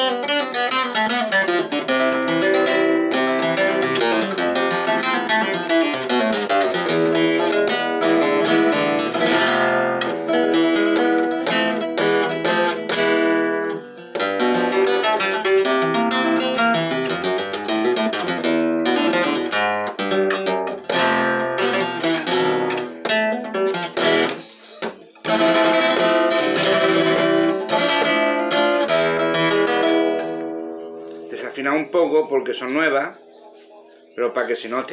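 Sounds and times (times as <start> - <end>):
nylon string guitar strummed and plucked: 0.0 - 34.9.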